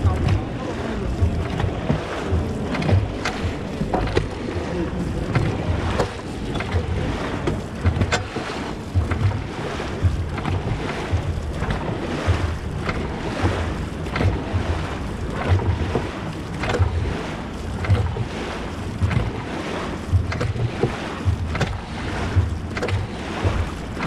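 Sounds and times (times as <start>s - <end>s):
paddles splashing through water: 0.0s - 24.0s
water rushing: 0.0s - 24.0s
wind on microphone: 0.0s - 24.0s.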